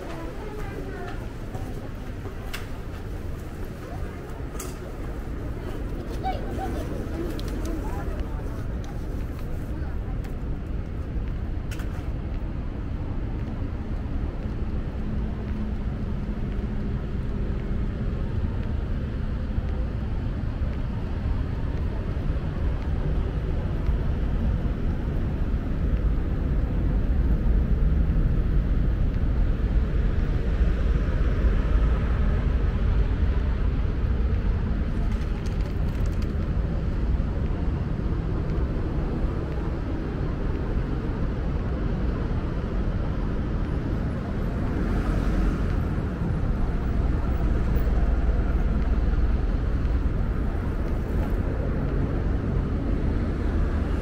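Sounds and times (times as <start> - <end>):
city street traffic rumble: 0.0 - 54.0.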